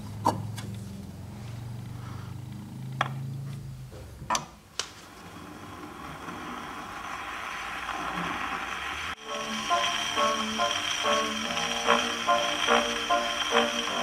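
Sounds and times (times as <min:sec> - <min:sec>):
record hiss: 0:00.0 - 0:14.0.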